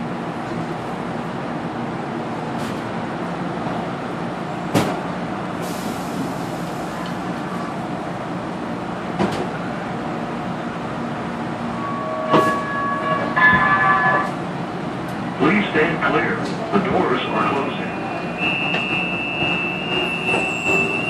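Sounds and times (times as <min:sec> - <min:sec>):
light-rail car hum: 0:00.0 - 0:21.0.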